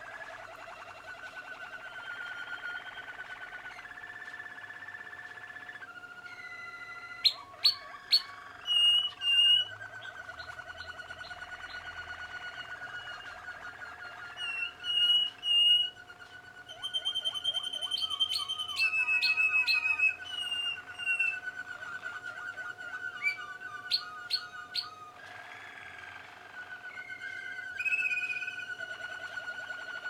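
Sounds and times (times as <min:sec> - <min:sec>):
canaries singing trills: 0:00.0 - 0:30.0.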